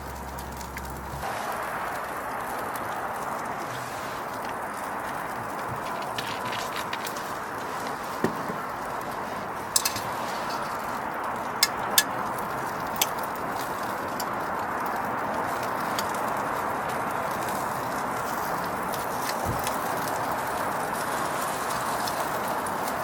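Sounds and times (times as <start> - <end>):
fire popping: 0.0 - 23.0
wood fire hissing: 0.0 - 23.0.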